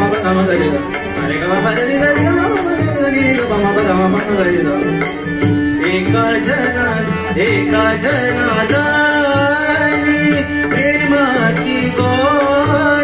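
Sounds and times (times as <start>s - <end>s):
harmonium holding a note: 0.0s - 13.0s
man singing: 0.0s - 13.0s
tabla beat: 0.0s - 13.0s.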